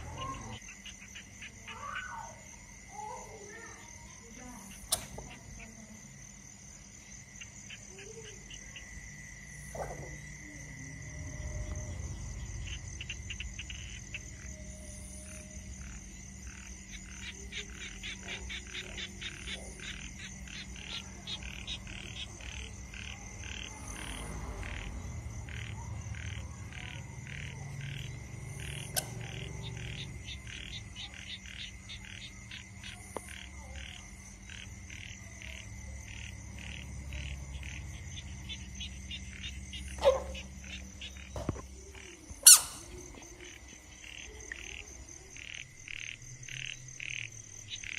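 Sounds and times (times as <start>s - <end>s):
frogs croaking: 0.0s - 47.9s.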